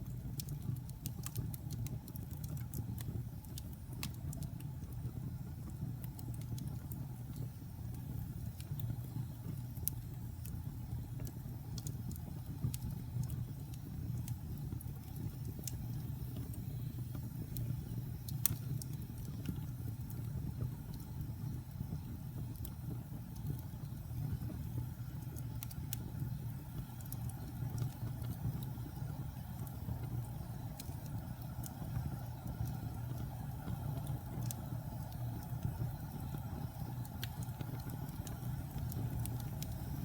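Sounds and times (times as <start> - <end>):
fire crackles and pops: 0.0 - 40.0
low rumble of flames: 0.0 - 40.0.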